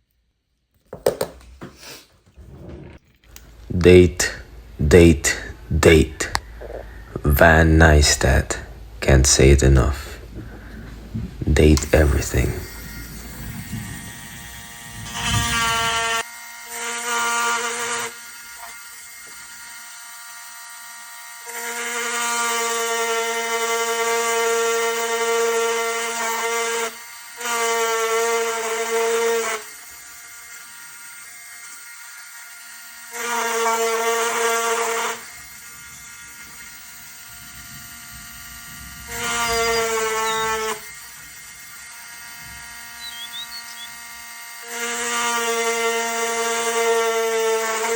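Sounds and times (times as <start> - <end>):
rotary engraving tool whining: 5.3 - 7.3, 8.0 - 47.9.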